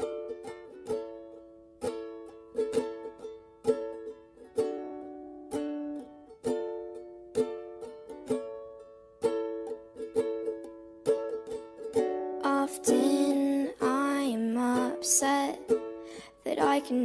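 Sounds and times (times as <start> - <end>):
strummed acoustic string instrument: 0.0 - 17.0.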